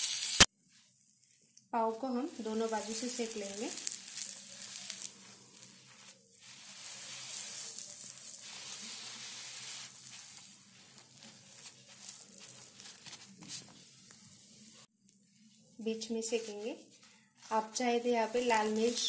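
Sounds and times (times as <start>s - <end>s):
buns sizzling in butter: 0.0s - 19.0s.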